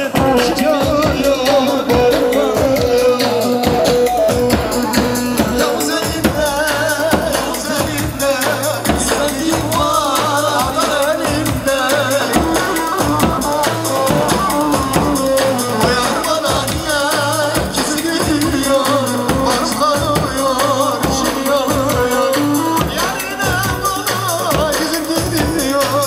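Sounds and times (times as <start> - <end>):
lively party music: 0.0 - 26.0.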